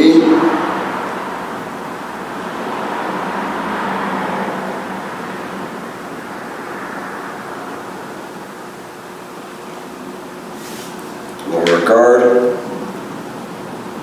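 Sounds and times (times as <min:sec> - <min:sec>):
road traffic rushing by: 0:00.0 - 0:11.3.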